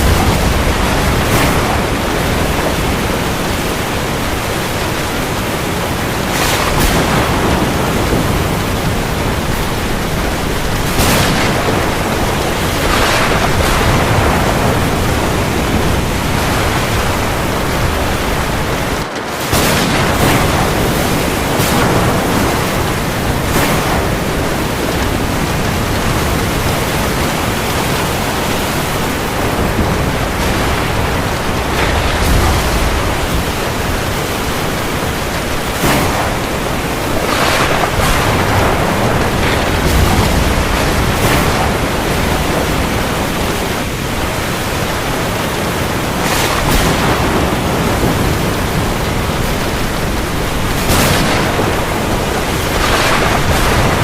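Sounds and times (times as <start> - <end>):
heavy rain falling on the sea: 0.0 - 54.0.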